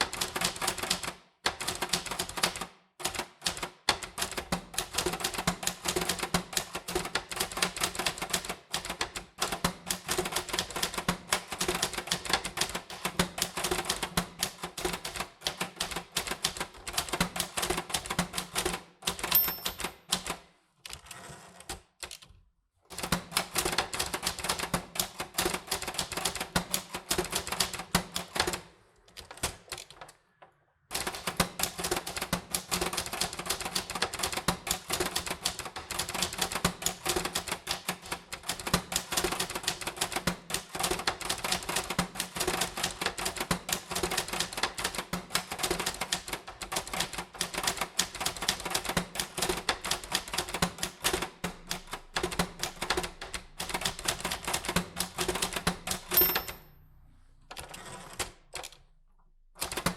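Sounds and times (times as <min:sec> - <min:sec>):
typewriter keys clicking: 0:00.0 - 0:22.3, 0:31.0 - 0:56.6, 0:59.6 - 0:59.9.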